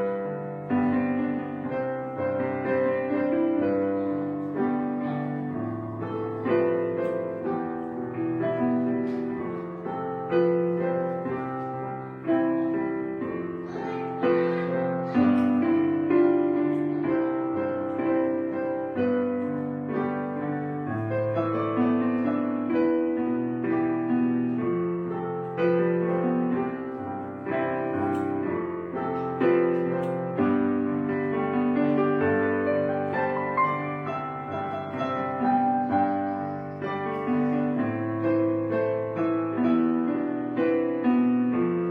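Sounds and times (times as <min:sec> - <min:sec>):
calm piano music: 0:00.0 - 0:41.9.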